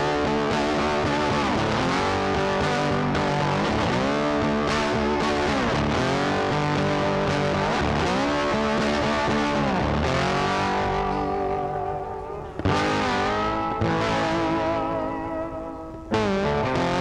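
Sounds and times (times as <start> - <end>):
guitar music with bending notes: 0.0 - 17.0.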